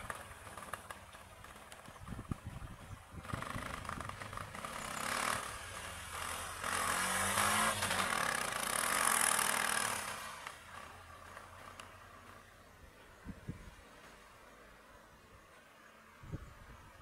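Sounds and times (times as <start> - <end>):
vehicle engines on the road: 0.0 - 17.0.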